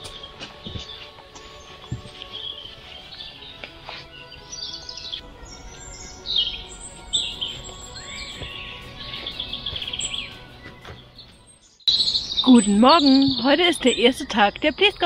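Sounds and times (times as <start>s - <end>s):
soft background music: 0.0s - 15.0s
songbirds singing: 0.0s - 15.0s.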